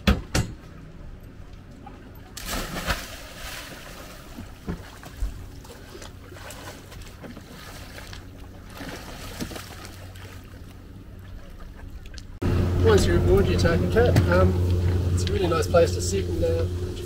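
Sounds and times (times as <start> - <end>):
low steady hum: 0.0 - 17.0
water splashing: 2.3 - 17.0.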